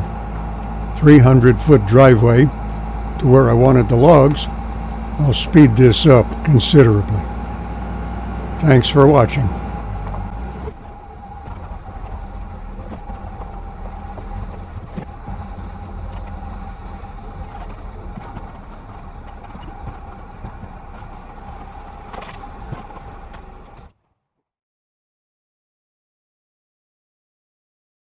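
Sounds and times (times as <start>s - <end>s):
truck engine running at low speed: 0.0s - 23.9s.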